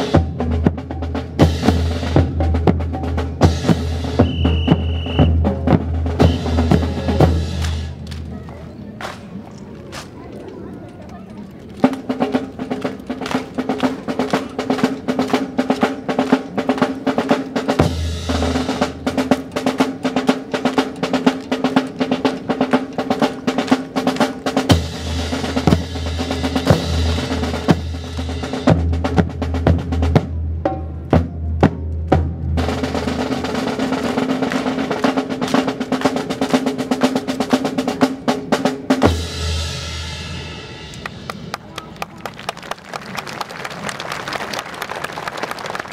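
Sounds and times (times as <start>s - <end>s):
snare drum rolls: 0.0s - 8.3s, 11.8s - 41.8s.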